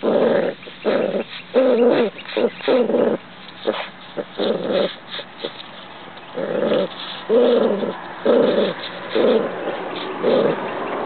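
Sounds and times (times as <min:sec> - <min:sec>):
dog growling: 0:00.0 - 0:11.0.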